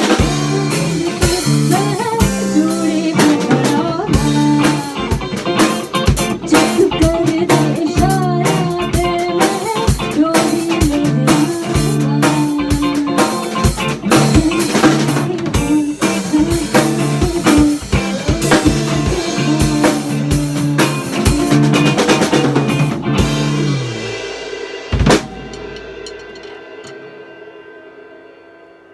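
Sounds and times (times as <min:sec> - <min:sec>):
bass and guitar: 0:00.0 - 0:26.5
drum kit playing: 0:00.0 - 0:27.7.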